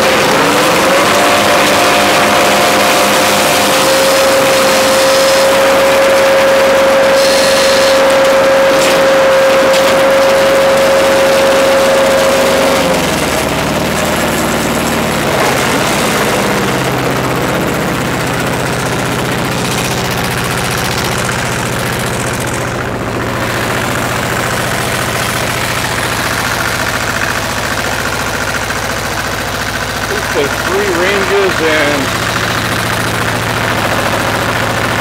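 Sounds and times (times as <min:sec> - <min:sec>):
diesel engine idling: 0:00.0 - 0:35.0
high steady whine: 0:00.0 - 0:35.0.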